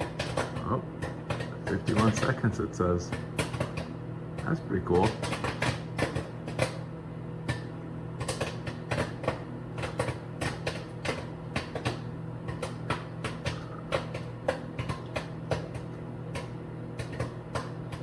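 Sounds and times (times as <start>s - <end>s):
microwave humming: 0.0s - 18.0s
popcorn popping in a bag: 0.0s - 18.0s.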